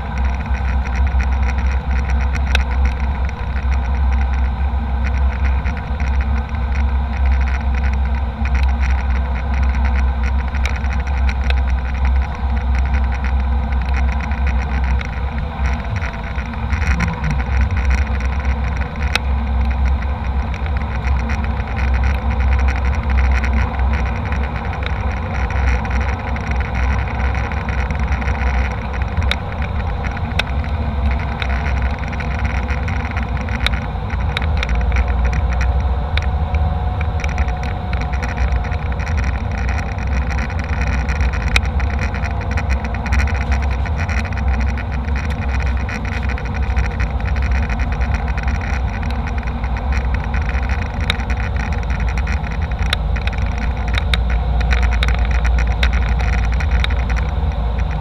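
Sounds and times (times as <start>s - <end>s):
jet cabin engine rumble: 0.0s - 58.0s
light clicks and rattles: 0.0s - 58.0s.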